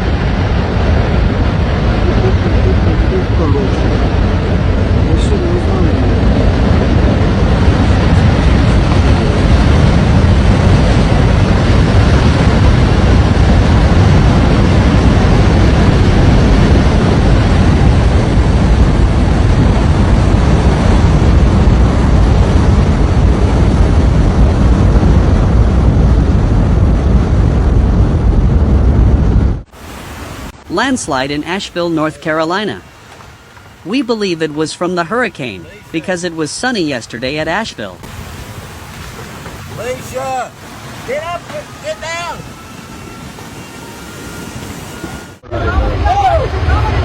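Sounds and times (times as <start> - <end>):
debris flow rushing rumble: 0.0 - 47.0.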